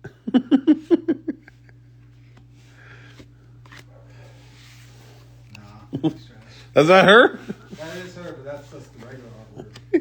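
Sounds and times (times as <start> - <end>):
trading cards rustling: 2.0 - 10.0.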